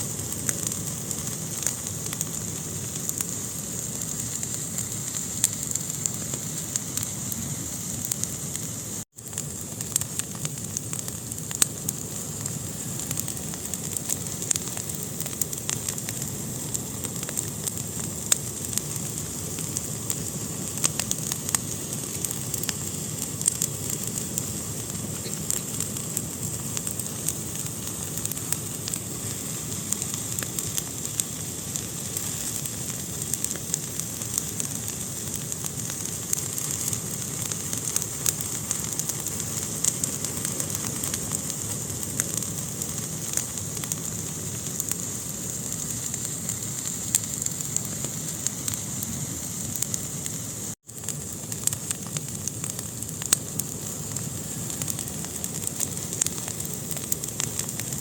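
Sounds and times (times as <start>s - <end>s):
fire crackling and popping: 0.0s - 58.0s
fire hissing in fireplace: 0.0s - 58.0s.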